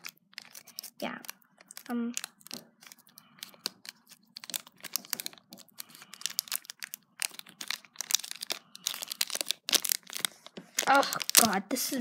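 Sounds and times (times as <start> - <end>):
foil wrapper crinkling: 0.0 - 11.9.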